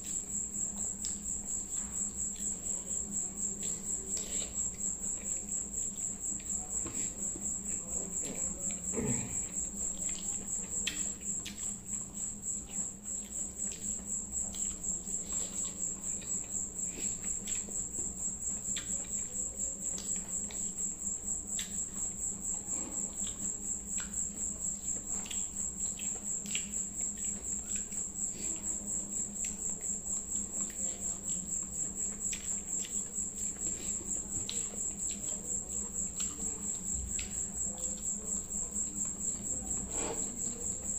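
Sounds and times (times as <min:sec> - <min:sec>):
cricket chirping: 0:00.0 - 0:40.9
wet clicks of eating by hand: 0:00.0 - 0:40.9.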